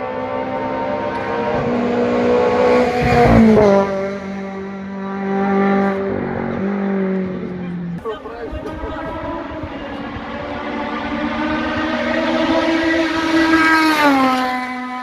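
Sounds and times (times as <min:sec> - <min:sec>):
rally car engine passing by: 0:00.0 - 0:15.0.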